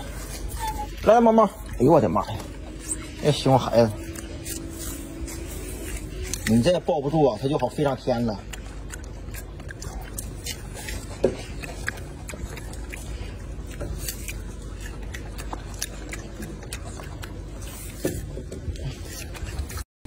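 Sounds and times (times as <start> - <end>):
monkey chewing food: 0.0 - 19.8.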